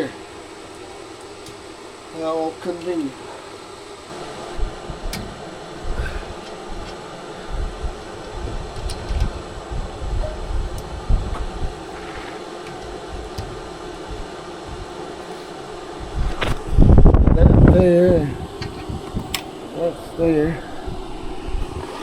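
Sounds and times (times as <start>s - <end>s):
steady hiss: 0.0s - 22.0s
wind gusts on microphone: 4.1s - 22.0s.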